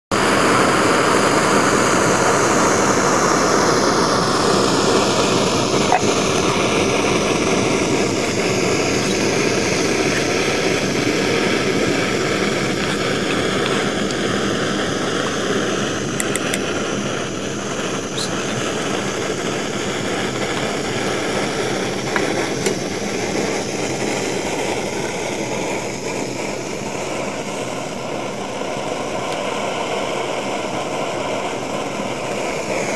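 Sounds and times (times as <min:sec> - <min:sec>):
gas burner hissing: 0:00.1 - 0:32.9.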